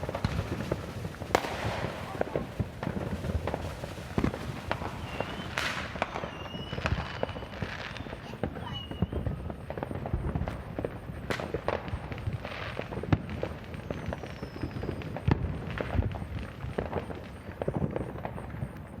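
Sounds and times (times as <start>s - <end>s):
faint falling firework whistle: 0.0s - 19.0s
firecrackers popping and crackling: 0.0s - 19.0s
sharp firework bangs: 0.0s - 19.0s.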